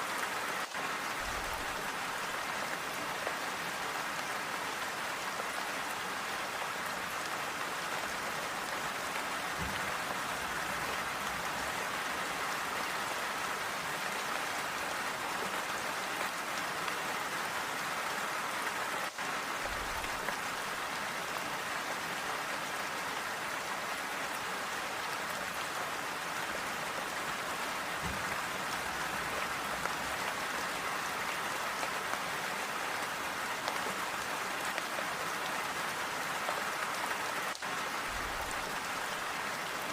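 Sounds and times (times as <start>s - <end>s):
rain on roof tiles: 0.0s - 39.9s.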